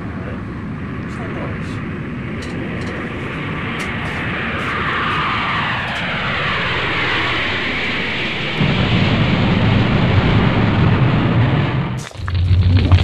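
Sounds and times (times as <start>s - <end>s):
heavy low rumble: 0.0s - 13.0s
engine whine falling in pitch: 2.2s - 13.0s
rushing noise: 2.4s - 13.0s.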